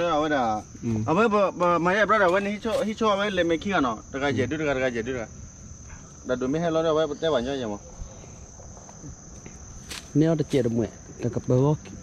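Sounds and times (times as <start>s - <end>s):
men talking: 0.0s - 8.0s, 10.1s - 11.9s
insect chorus trilling: 0.0s - 12.0s.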